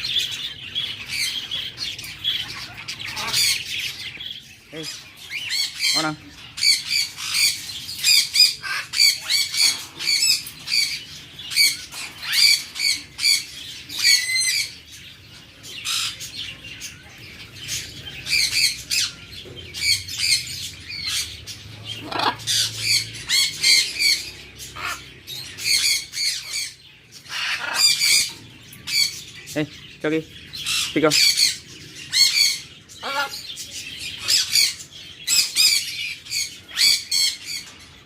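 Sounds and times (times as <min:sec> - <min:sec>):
budgerigar chicks squawking: 0:00.0 - 0:14.9, 0:15.8 - 0:37.8.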